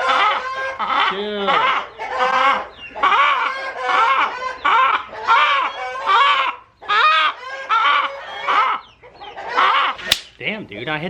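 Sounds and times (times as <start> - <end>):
chicken squawking: 0.0 - 10.2.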